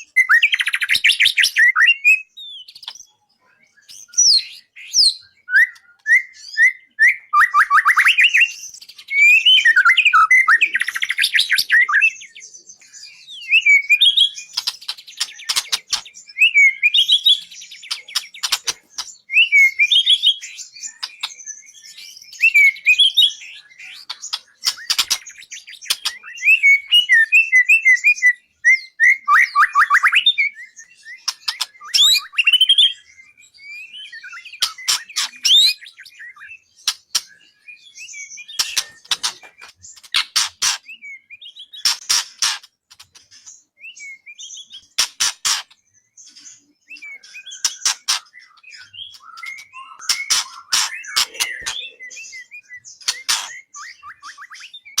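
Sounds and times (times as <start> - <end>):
songbird singing varied song: 0.0 - 55.0.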